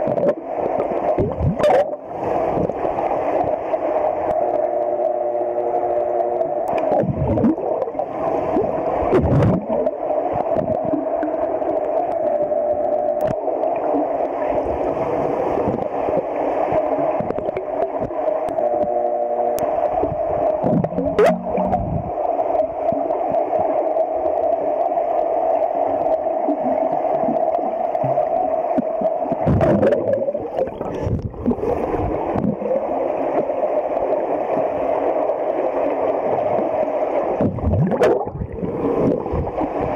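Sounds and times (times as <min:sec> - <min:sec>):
muffled underwater hum: 0:00.0 - 0:39.9
underwater bubbling of swimmers' kicks: 0:00.0 - 0:39.9.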